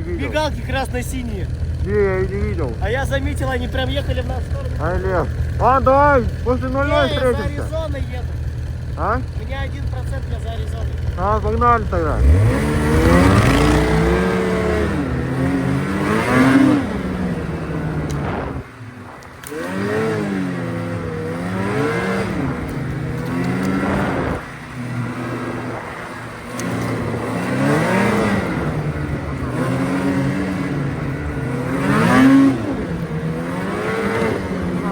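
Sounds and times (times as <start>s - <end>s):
vehicle engine revving: 0.0s - 34.9s.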